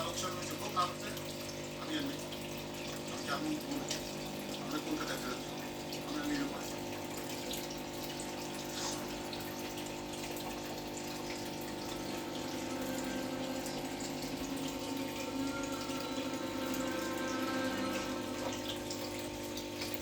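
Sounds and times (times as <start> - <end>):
pump hum: 0.0 - 20.0
water flowing in aquarium filter: 0.0 - 20.0.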